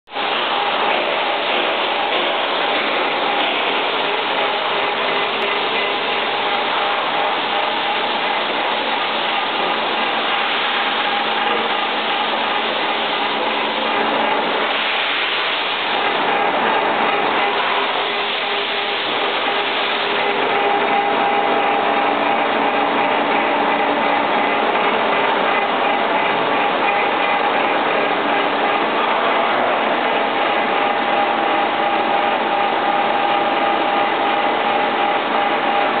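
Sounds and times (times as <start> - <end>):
lathe running with a whine: 0.1 - 36.0.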